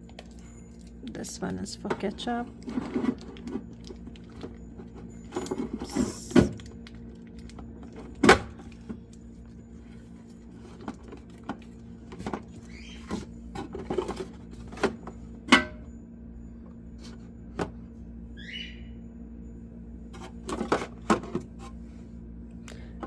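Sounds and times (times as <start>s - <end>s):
fridge low hum: 0.0s - 23.0s.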